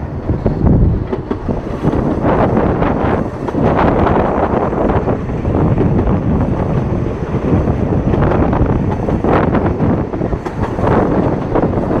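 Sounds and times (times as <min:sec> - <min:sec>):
steam train rumbling: 0:00.0 - 0:12.0
wind buffeting microphone: 0:00.0 - 0:12.0.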